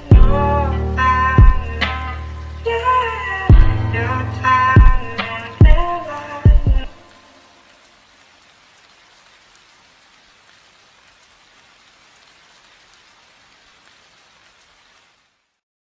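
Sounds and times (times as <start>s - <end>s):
rain-like hiss with crackle: 0.0s - 15.6s.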